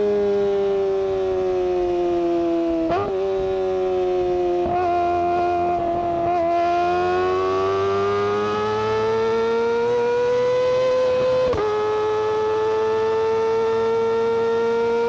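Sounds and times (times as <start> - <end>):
motorcycle engine high-pitched wail: 0.0 - 15.0.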